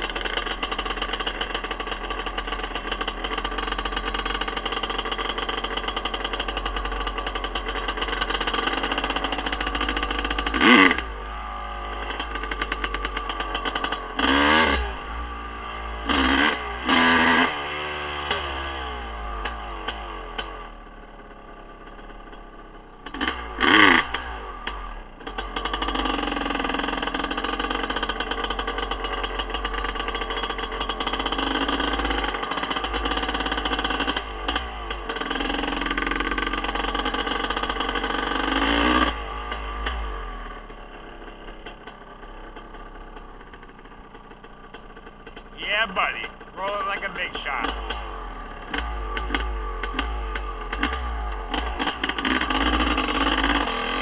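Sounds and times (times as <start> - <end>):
dirt bike engine revving: 0.0 - 19.9, 23.0 - 40.1, 45.6 - 54.0.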